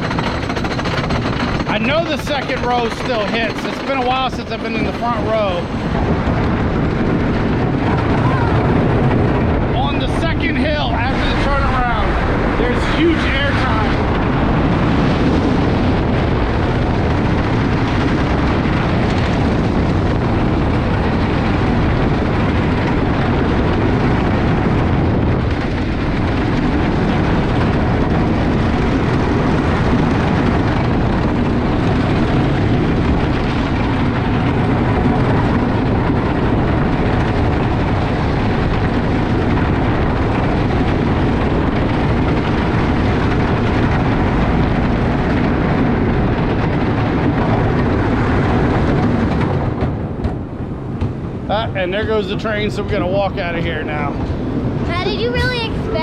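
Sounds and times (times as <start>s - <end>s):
roller coaster wheels rumbling on track: 0.0s - 56.0s
wind rushing over microphone: 0.0s - 56.0s.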